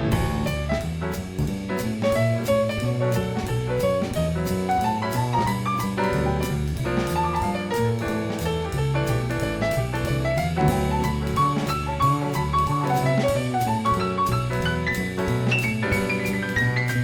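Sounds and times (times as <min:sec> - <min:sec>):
drum kit cymbals: 0:00.0 - 0:17.0
jazz piano: 0:00.0 - 0:17.0
walking bass line: 0:00.0 - 0:17.0.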